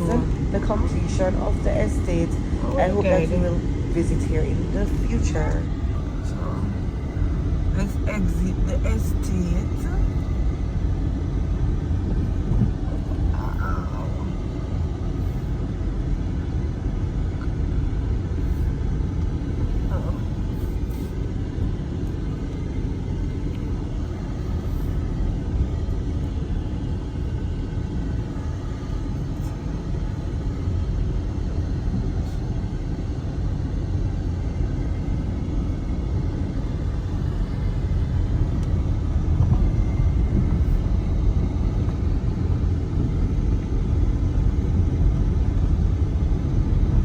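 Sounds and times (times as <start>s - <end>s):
car cabin rumble: 0.0s - 47.0s.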